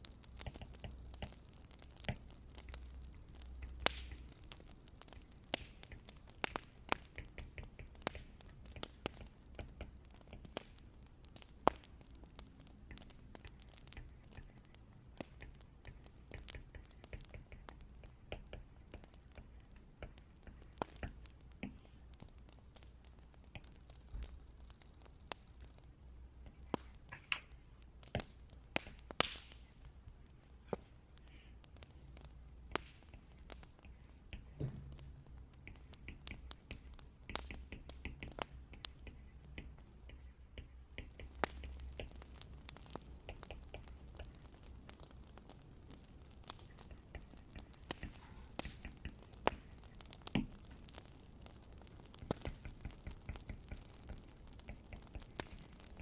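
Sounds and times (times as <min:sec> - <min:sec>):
faint steady background noise: 0:00.0 - 0:56.0
wood fire crackling and popping: 0:00.0 - 0:56.0.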